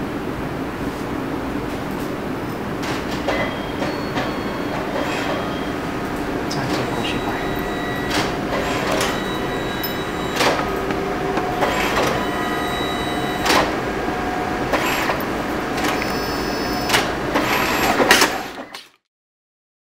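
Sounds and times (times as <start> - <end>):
printer mechanical whir: 0.2 - 18.8
printer sharp clicks: 2.8 - 18.8.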